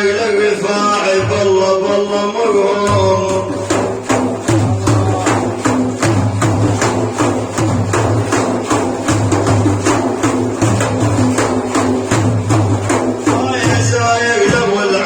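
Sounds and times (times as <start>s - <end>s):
frame drums beating: 2.9s - 15.0s.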